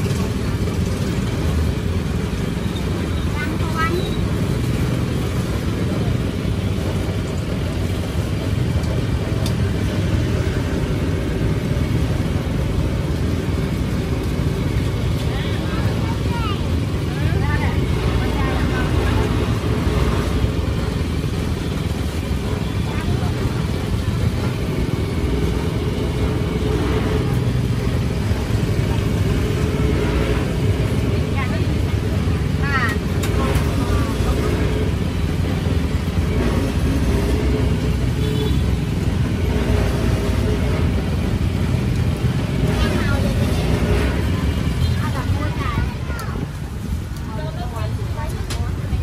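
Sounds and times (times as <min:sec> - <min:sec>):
low rumble of motor traffic: 0:00.0 - 0:49.0.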